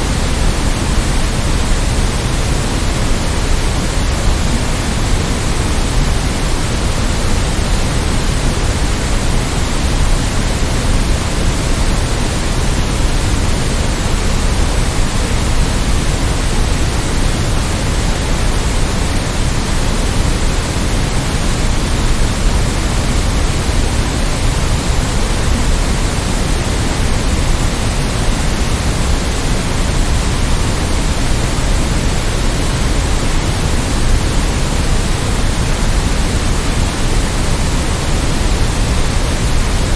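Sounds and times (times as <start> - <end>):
synthetic white noise: 0.0 - 39.9.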